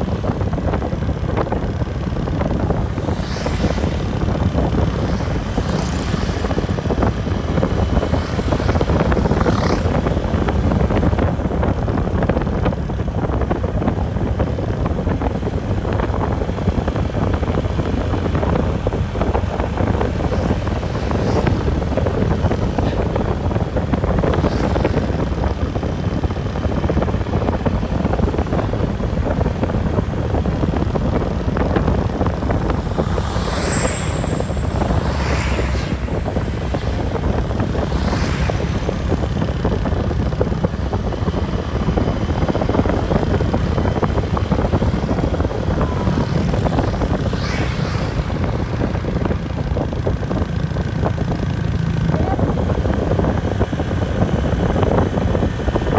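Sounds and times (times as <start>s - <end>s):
bus road and engine noise: 0.0s - 55.9s.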